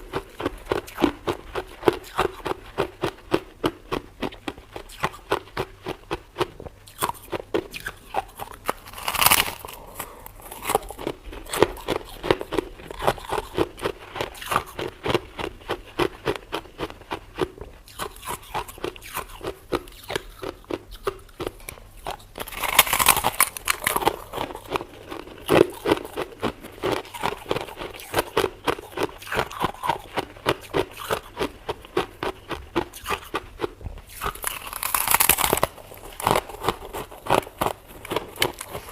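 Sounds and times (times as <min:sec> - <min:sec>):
person chewing crunchy frost: 0:00.0 - 0:38.9.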